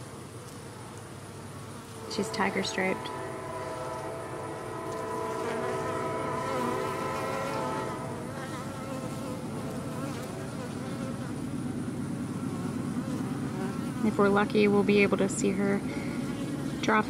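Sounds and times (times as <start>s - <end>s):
bees humming: 0.0s - 17.0s.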